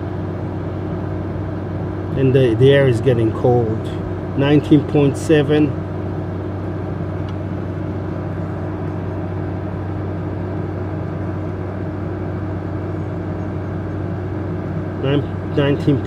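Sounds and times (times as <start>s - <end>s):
air conditioner compressor hum: 0.0s - 16.0s
fan blowing: 0.0s - 16.0s.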